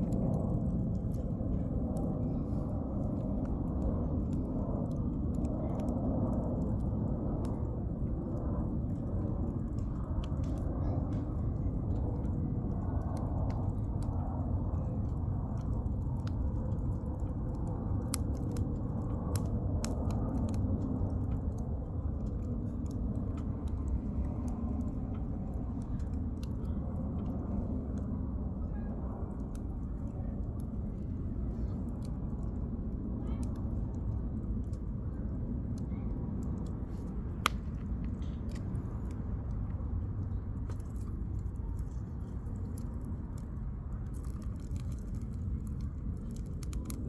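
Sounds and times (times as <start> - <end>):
campfire crackling and popping: 0.0 - 47.0
fire low rumble: 0.0 - 47.0.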